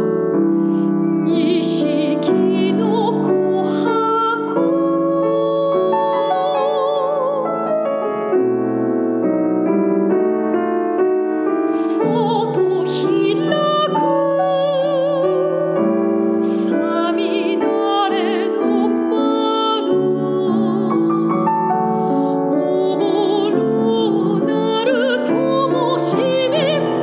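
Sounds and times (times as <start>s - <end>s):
soprano singing art song: 0.0s - 9.8s, 11.2s - 27.0s
piano accompaniment: 0.0s - 27.0s.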